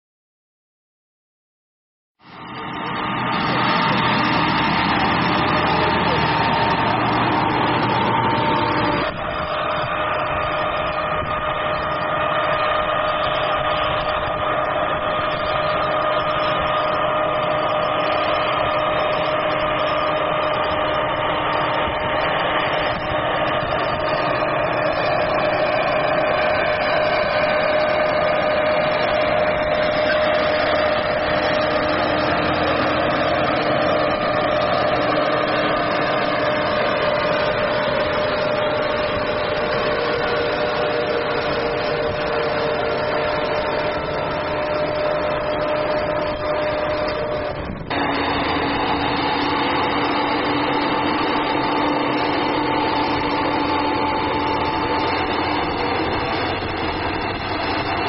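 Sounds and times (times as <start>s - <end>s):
tractor engine running: 2.2s - 58.0s.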